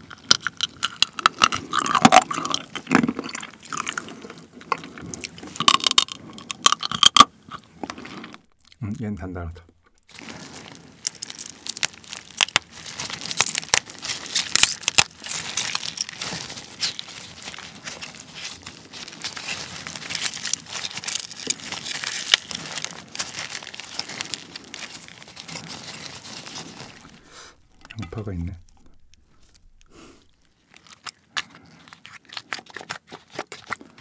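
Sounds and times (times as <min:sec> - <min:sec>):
crab shell cracking: 0:00.0 - 0:08.8, 0:09.8 - 0:34.0
wet squishing: 0:00.0 - 0:08.9, 0:09.7 - 0:34.0.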